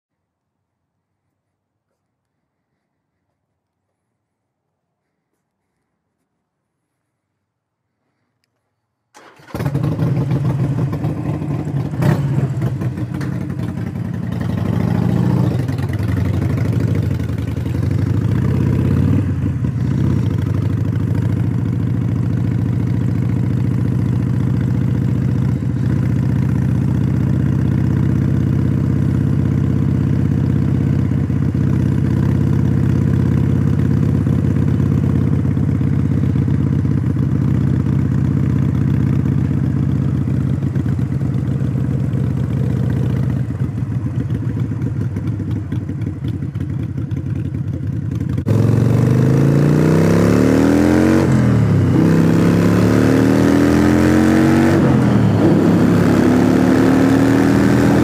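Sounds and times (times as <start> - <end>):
motorcycle engine revving: 9.2 - 58.0.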